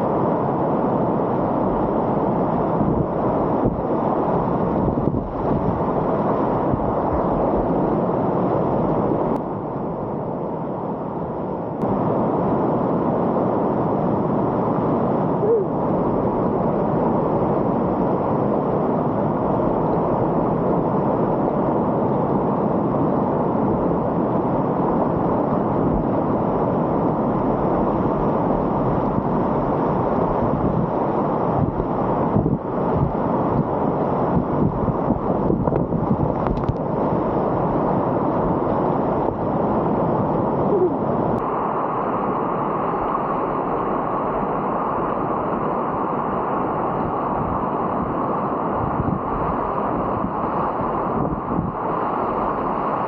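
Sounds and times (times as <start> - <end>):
whitewater river roaring: 0.0 - 53.0.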